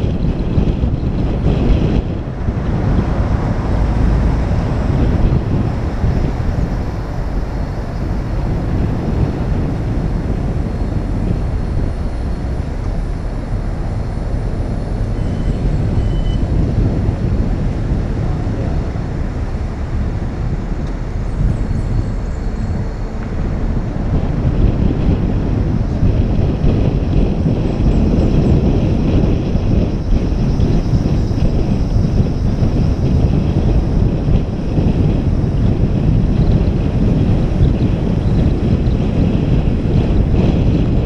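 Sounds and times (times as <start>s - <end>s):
vehicle road and wind noise: 0.0s - 41.0s.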